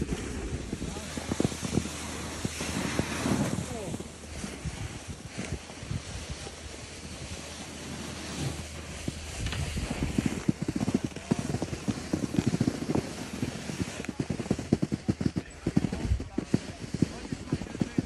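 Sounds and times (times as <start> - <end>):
wind buffeting microphone: 0.0 - 7.5, 8.6 - 18.0.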